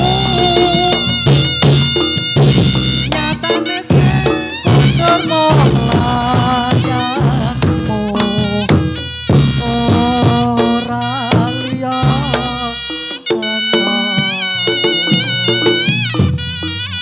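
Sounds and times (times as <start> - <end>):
reedy shawm melody: 0.0 - 17.0
steady drum strokes: 0.0 - 17.0.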